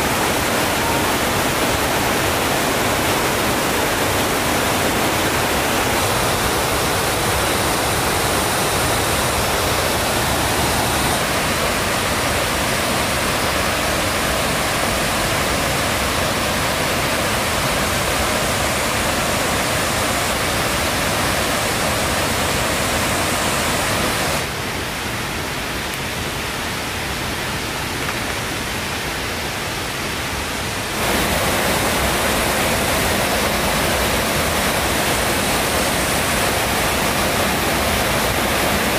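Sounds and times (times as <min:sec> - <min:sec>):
steady rushing noise: 0:00.0 - 0:25.3, 0:29.4 - 0:38.9.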